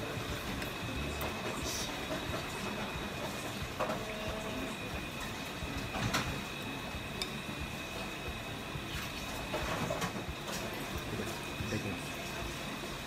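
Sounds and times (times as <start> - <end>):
mechanical room hum and hiss: 0.0 - 13.0.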